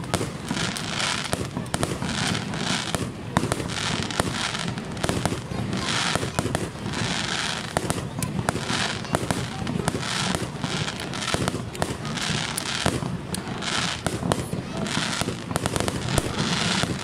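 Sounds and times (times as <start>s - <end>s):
fireworks hiss: 0.0s - 17.0s
fireworks shells bursting: 0.0s - 17.0s.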